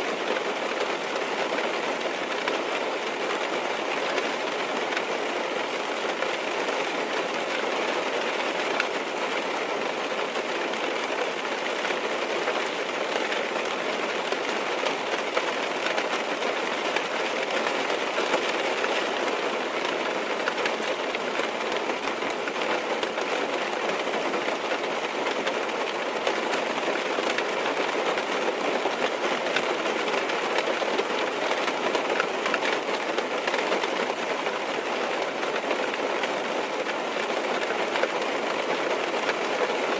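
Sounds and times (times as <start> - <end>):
rain on car roof and glass: 0.1 - 39.9.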